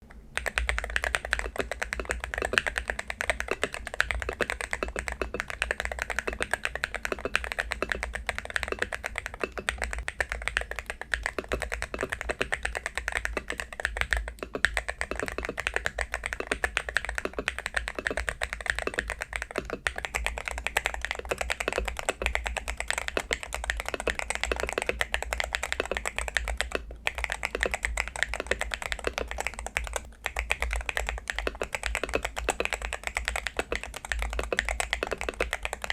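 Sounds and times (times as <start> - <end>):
fast keyboard typing: 0.1 - 35.9.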